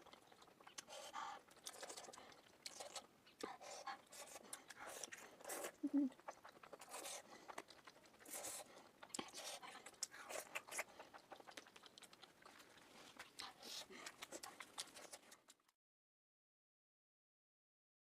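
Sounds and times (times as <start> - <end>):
chewing and biting dumplings: 0.0 - 15.8.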